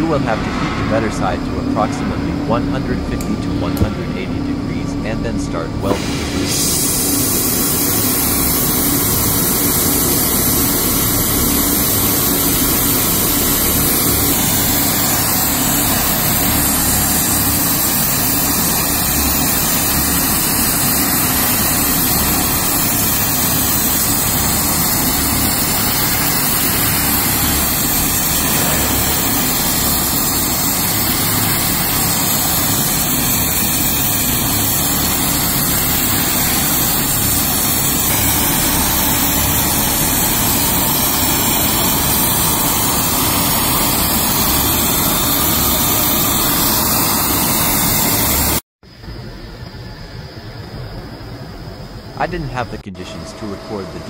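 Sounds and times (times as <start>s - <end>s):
gas torch burning: 0.0s - 48.6s.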